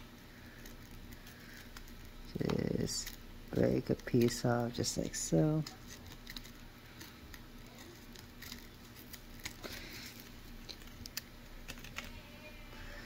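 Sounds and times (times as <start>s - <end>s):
cardboard crinkling: 0.0s - 12.2s.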